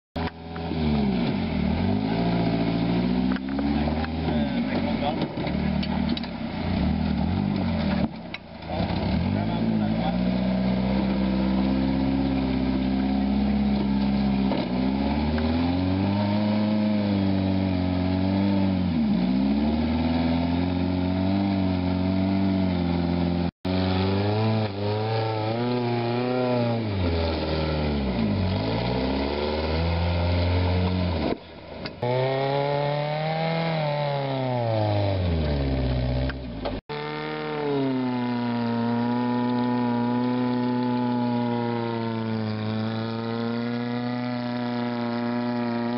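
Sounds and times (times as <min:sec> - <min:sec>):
buggy engine revving: 0:00.2 - 0:45.9.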